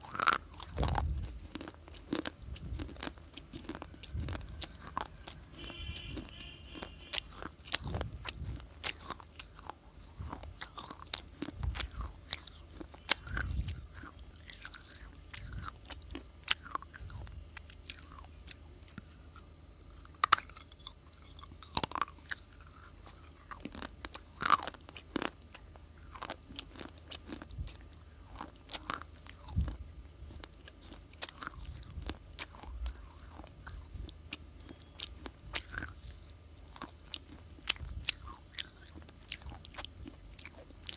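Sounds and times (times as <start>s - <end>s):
chewing brittle clay: 0.0s - 40.9s.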